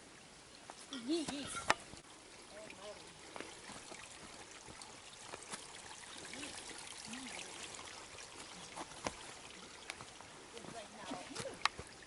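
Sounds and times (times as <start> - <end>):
creek water trickling over rocks: 0.0 - 12.0.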